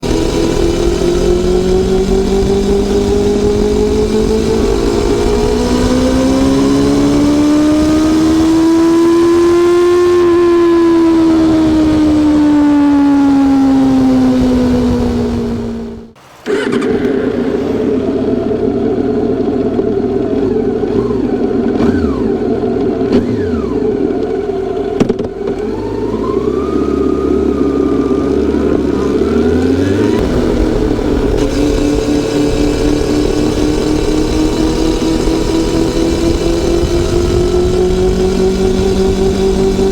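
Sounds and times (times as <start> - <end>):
motorcycle engine: 0.0 - 39.9
road noise: 0.0 - 39.9.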